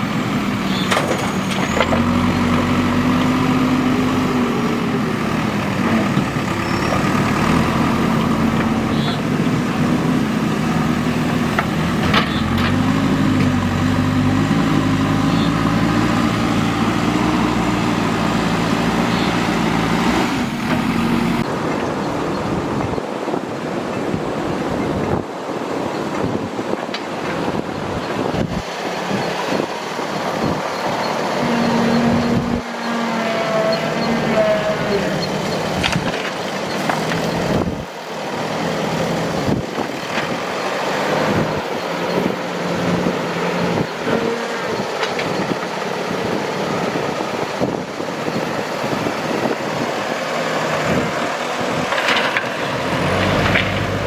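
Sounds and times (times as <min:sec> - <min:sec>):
diesel engine of heavy machinery: 0:00.0 - 0:54.0.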